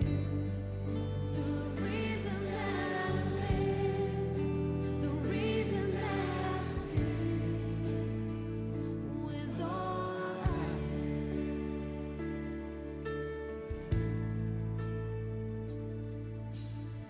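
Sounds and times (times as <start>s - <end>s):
slow song with singing: 0.0s - 15.0s.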